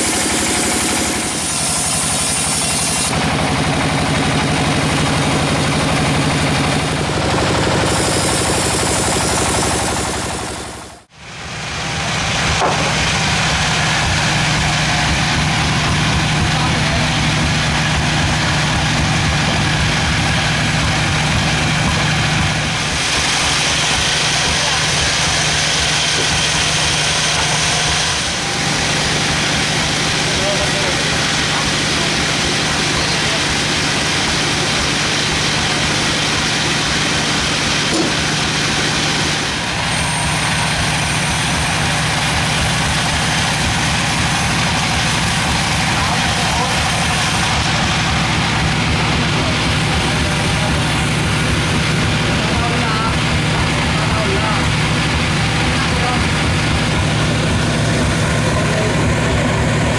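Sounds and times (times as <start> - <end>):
sawmill machinery droning: 0.0 - 59.9.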